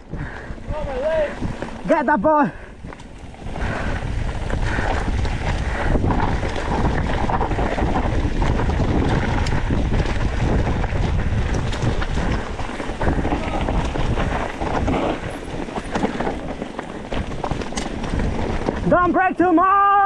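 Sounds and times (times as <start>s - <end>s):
wind rushing over microphone: 0.0s - 19.4s
bike rumbling and rattling: 0.0s - 20.0s.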